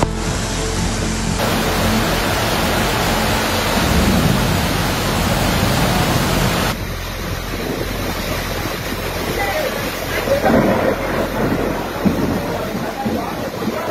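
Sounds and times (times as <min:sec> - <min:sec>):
pouring rain: 0:00.0 - 0:13.9
running floodwater: 0:00.0 - 0:13.9
wind: 0:00.0 - 0:13.9.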